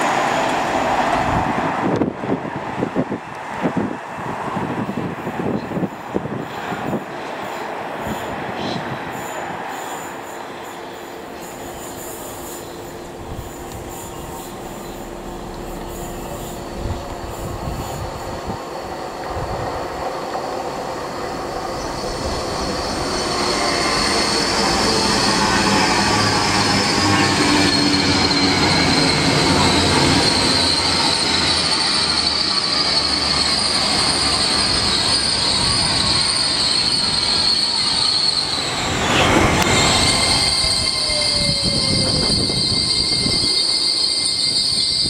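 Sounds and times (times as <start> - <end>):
high steady train whine: 0.0 - 45.0
train wheels rushing on rail: 0.0 - 45.0.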